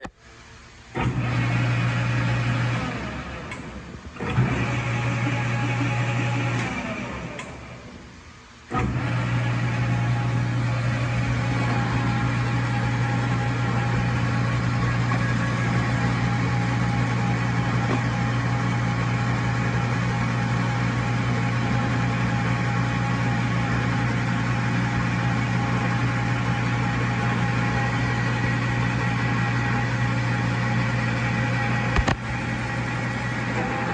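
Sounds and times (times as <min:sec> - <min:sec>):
lathe motor humming: 0:01.0 - 0:07.9, 0:08.7 - 0:33.9.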